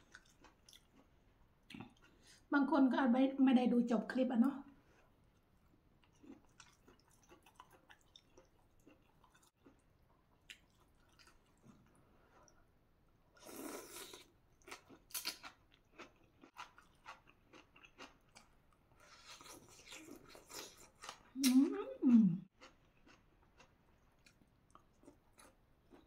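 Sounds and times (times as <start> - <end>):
chewing and crunching food: 0.0 - 2.5, 4.6 - 12.7, 13.4 - 21.8, 22.4 - 26.0.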